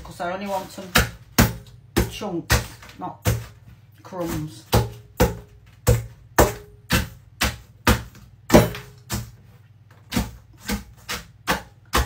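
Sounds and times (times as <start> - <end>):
rolling pin pounding biscuits in metal bowl: 0.0 - 12.0.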